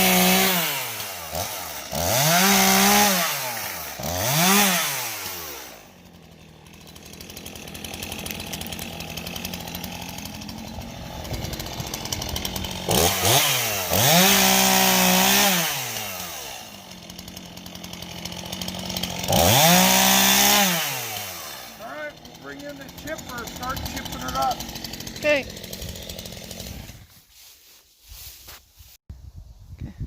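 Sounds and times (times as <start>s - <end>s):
chainsaw revving and idling: 0.0s - 27.5s.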